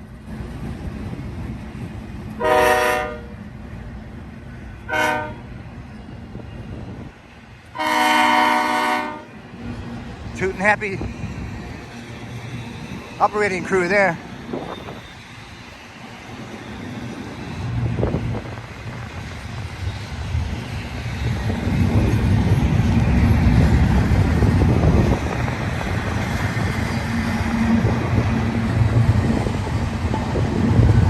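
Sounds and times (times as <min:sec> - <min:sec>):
diesel locomotives passing: 0:00.0 - 0:31.0.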